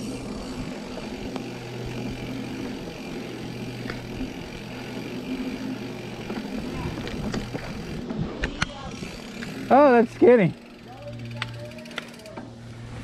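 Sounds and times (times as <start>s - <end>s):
bike clicks and rattles: 0.0s - 12.8s
mountain bike rolling on dirt: 0.0s - 13.0s.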